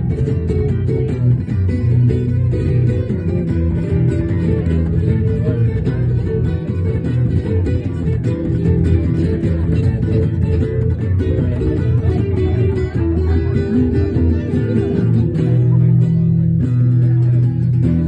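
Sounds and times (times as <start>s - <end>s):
band playing guitars: 0.0s - 18.0s.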